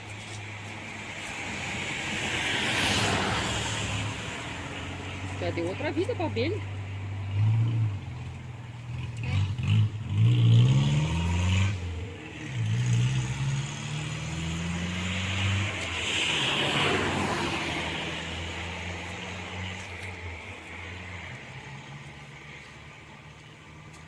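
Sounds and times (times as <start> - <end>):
engine revving: 1.2 - 22.2.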